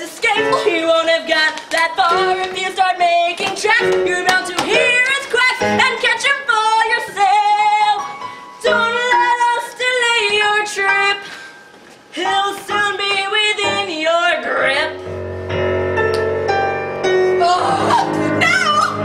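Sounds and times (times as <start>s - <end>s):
woman singing: 0.0s - 11.4s, 12.1s - 15.0s, 17.3s - 19.0s.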